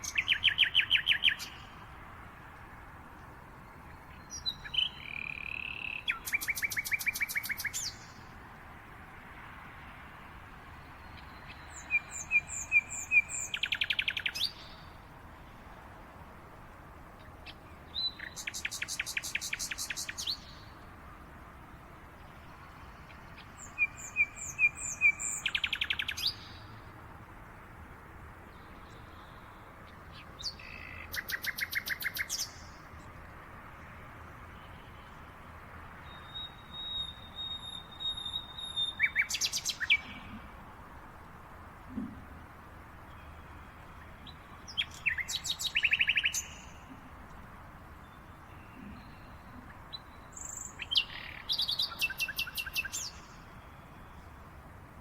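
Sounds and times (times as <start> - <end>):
songbird singing: 0.0 - 55.0
steady background hiss: 0.0 - 55.0.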